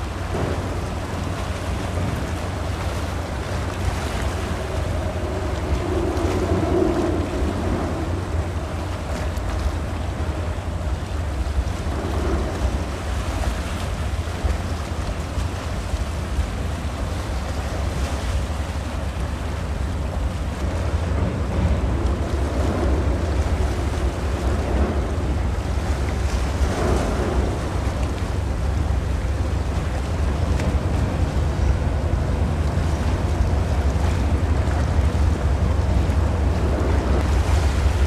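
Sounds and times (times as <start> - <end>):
sea water rushing: 0.0 - 38.0
wind buffeting microphone: 0.0 - 38.0.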